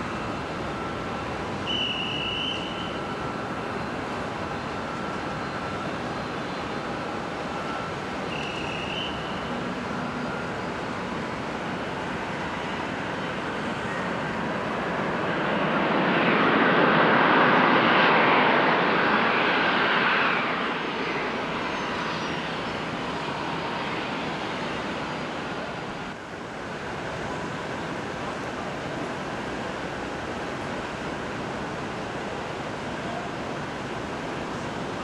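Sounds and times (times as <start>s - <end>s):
jet engines rushing past: 0.0s - 35.0s.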